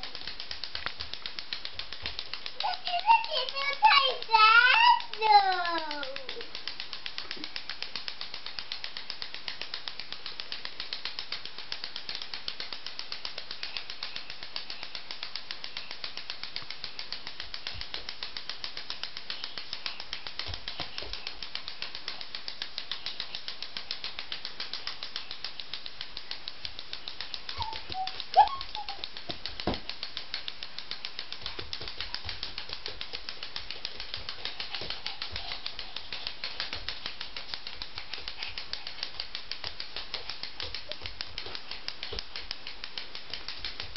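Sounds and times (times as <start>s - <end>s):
clockwork toy ticking: 0.0s - 43.9s.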